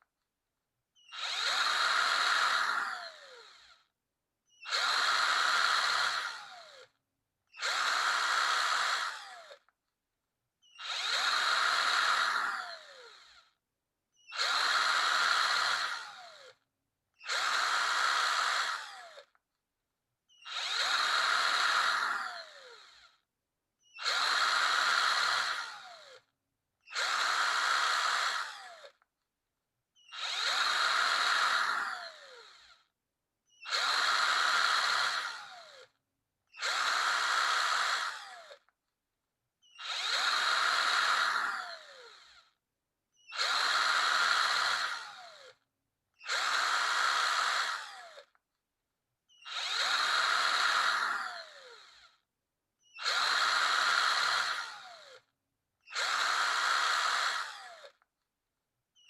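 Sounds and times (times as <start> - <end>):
electric drill whirring: 1.0 - 3.9, 4.5 - 9.8, 10.6 - 13.6, 14.2 - 19.4, 20.3 - 29.1, 30.0 - 32.9, 33.5 - 38.7, 39.6 - 42.6, 43.2 - 45.6, 46.2 - 48.4, 49.3 - 58.1.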